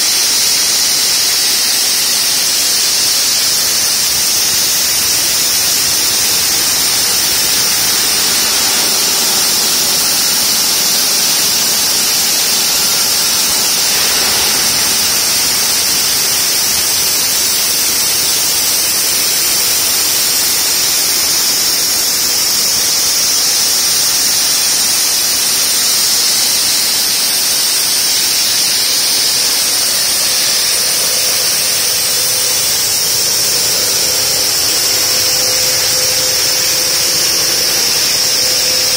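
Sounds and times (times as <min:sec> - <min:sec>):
saw high-pitched whine: 0:00.0 - 0:38.9
water spray hiss: 0:00.0 - 0:38.9.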